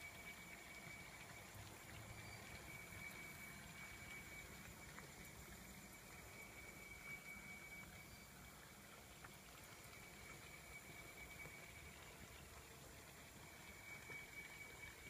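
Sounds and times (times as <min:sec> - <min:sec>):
thin high tone: 0:00.0 - 0:08.6, 0:09.7 - 0:15.0.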